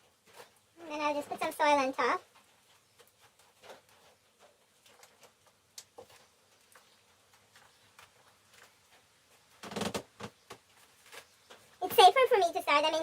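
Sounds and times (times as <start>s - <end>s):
soil and plastic containers ticking: 0.0s - 13.0s.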